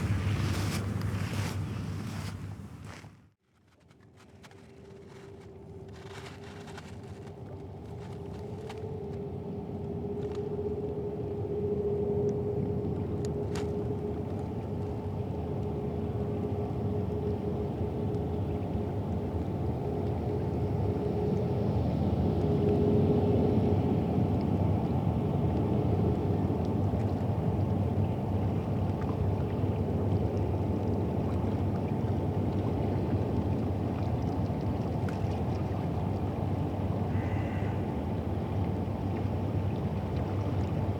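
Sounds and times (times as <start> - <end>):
boat engine rumble: 0.0 - 40.9.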